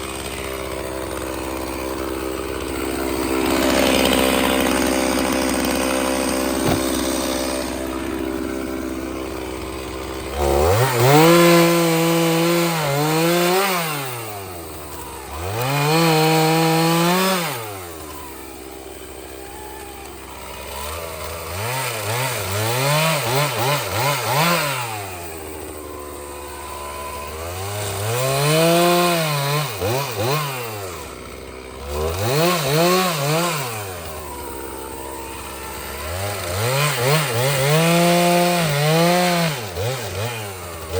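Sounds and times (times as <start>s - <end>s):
chainsaw revving and cutting wood: 0.0s - 40.9s
chainsaw throttle blips: 0.0s - 40.9s.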